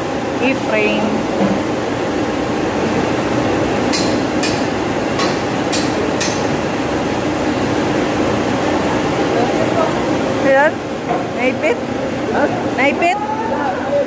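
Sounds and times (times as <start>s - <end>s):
cooling tower machinery drone: 0.0s - 14.0s.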